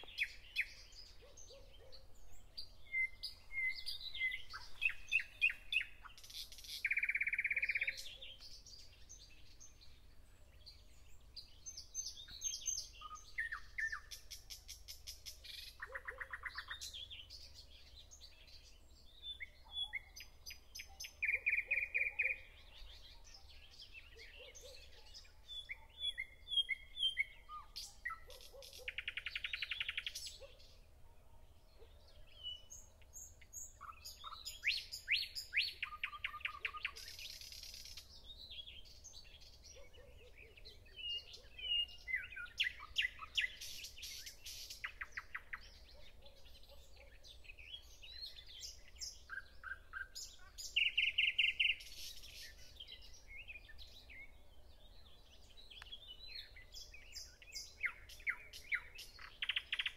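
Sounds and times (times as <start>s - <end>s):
faint lower bird calls: 0.0s - 9.6s, 19.2s - 59.9s
songbirds singing and chirping: 0.0s - 59.9s.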